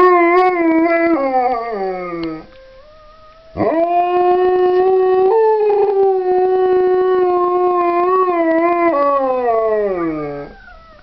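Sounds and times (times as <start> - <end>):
dog howling: 0.0 - 11.0.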